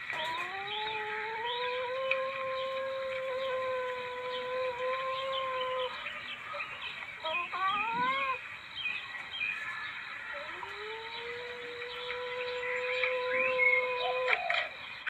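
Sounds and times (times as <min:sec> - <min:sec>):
civet calls: 0:00.0 - 0:09.0, 0:09.6 - 0:14.8
faint high chirping: 0:00.0 - 0:15.0.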